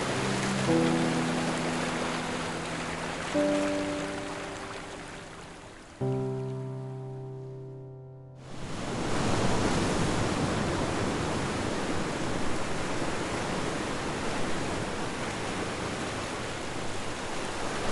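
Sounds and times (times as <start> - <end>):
ocean waves and surf: 0.0 - 17.9.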